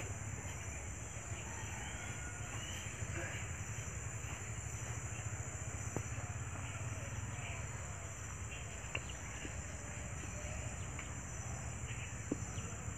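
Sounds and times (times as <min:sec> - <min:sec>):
insects droning: 0:00.0 - 0:12.9.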